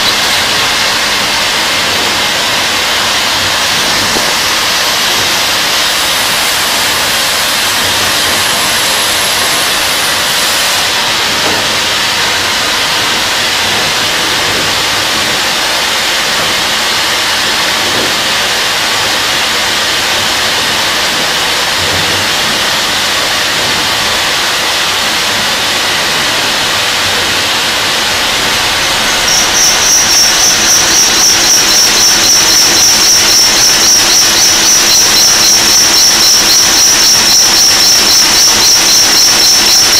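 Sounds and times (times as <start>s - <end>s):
high pulsing whine: 0.0s - 39.9s
machining hissing rush: 0.0s - 39.9s.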